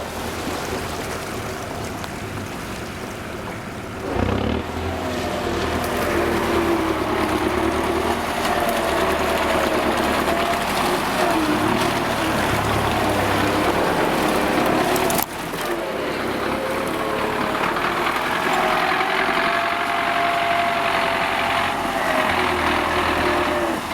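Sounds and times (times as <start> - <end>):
off-road vehicle engine running hard: 0.0 - 23.9.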